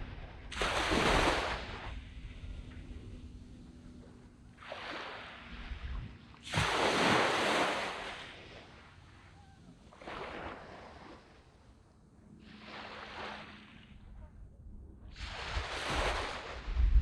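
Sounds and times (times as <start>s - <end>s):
sea waves washing on sand: 0.0s - 3.2s, 4.0s - 9.3s, 9.9s - 11.6s, 12.4s - 13.9s, 15.1s - 17.0s.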